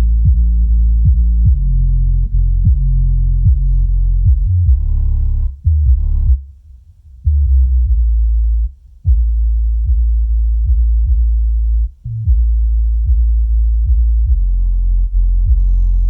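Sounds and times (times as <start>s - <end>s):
subwoofer playing bass-heavy music: 0.0s - 16.0s.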